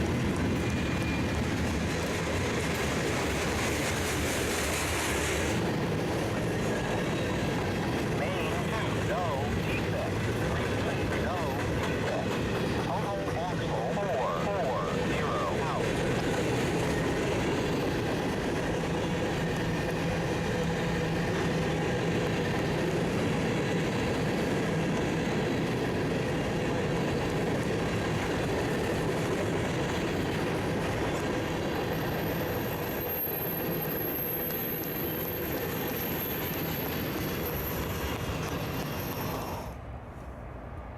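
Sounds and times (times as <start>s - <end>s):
freight train cars rolling: 0.0s - 39.8s.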